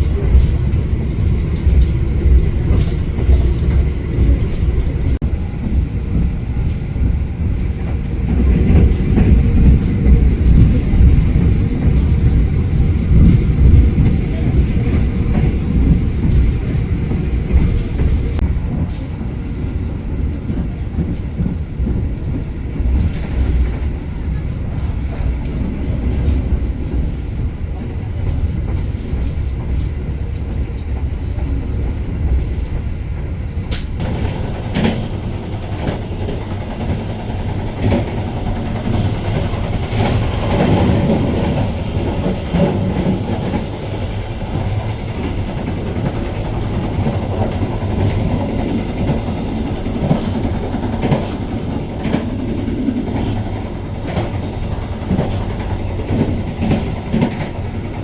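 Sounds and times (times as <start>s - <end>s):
train coach rumble: 0.0s - 58.0s
wheels clacking over rail joints: 0.0s - 58.0s.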